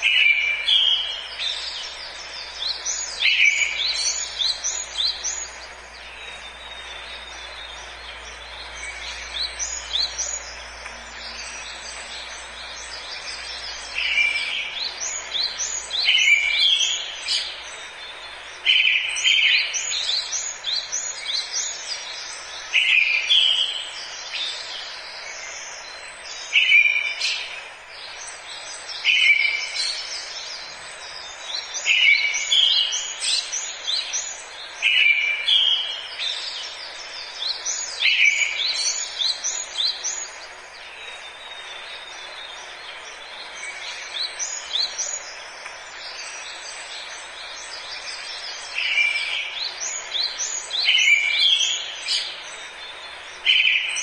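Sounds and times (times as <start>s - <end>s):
birds chirping: 0.0s - 54.0s
forest ambience hiss: 0.0s - 54.0s.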